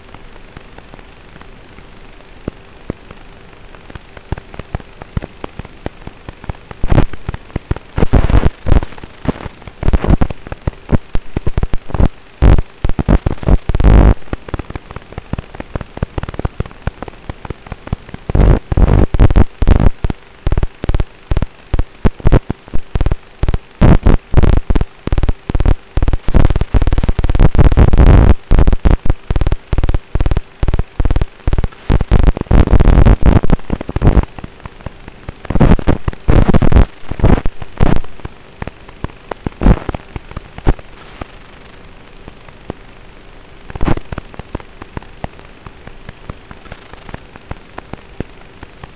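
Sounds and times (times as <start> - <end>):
faint steady hum: 0.0 - 48.9
harsh distorted crackling noise: 0.0 - 48.9.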